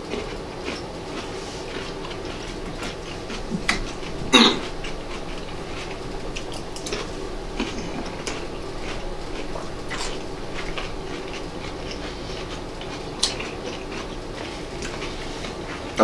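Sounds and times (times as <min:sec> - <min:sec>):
chewing: 0:00.0 - 0:16.0
room hum: 0:00.0 - 0:16.0.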